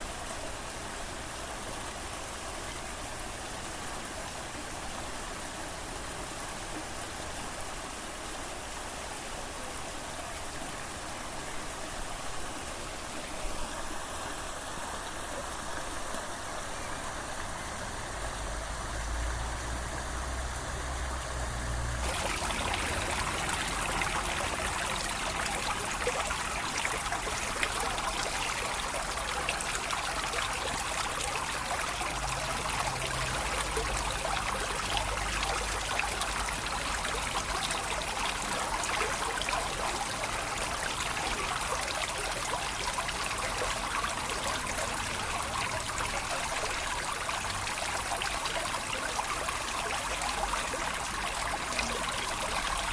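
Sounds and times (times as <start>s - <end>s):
stream trickling and splashing: 0.0s - 52.9s.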